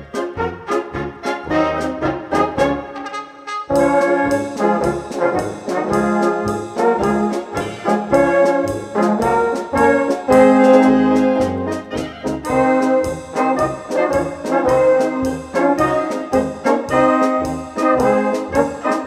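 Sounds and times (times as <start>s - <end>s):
brass band polka: 0.0s - 19.0s
oom-pah bass: 0.0s - 19.0s.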